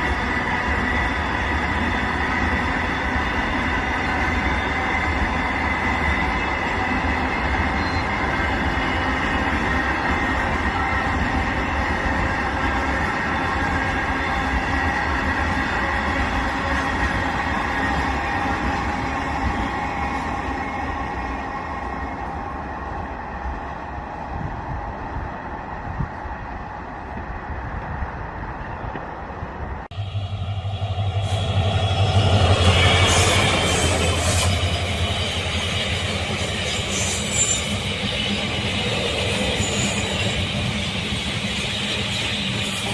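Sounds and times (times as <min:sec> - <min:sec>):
freight train rumbling on rails: 0:00.0 - 0:42.9.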